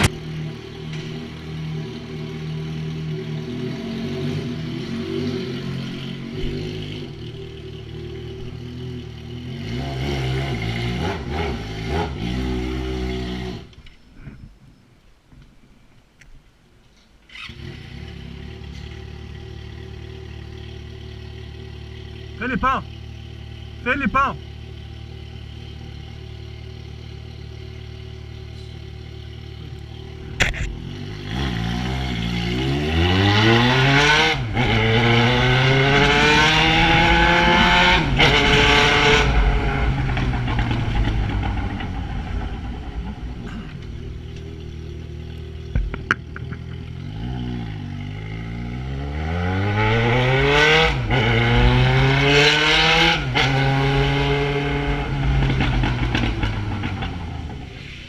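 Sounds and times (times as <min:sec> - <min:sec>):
motorcycle engine revving: 0:00.0 - 0:13.8, 0:17.3 - 0:58.0.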